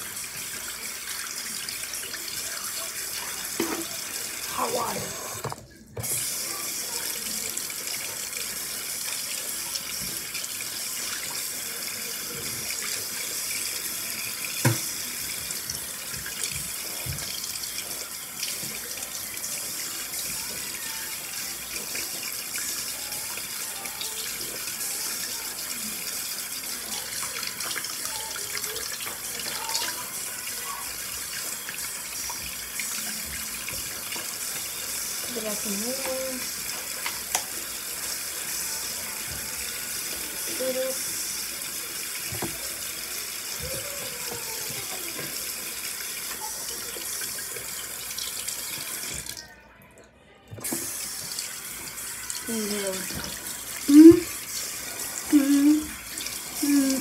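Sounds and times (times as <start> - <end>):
toothbrush rinsed under tap: 0.0 - 49.5, 50.6 - 57.0
water running into a sink: 0.0 - 49.6, 50.5 - 57.0.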